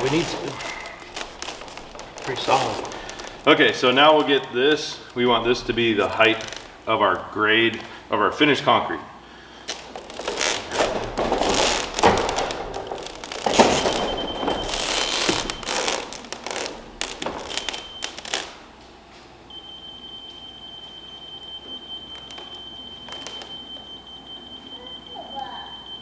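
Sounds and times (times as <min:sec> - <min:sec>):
rustling and handling noise: 0:00.0 - 0:08.4, 0:09.2 - 0:19.4, 0:21.7 - 0:24.0.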